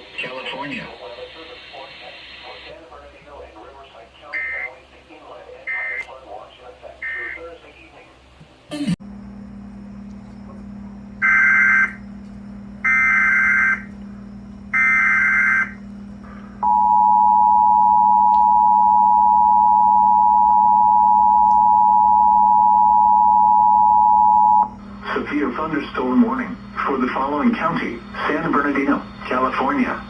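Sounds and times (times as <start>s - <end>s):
low steady hum: 2.7s - 30.0s.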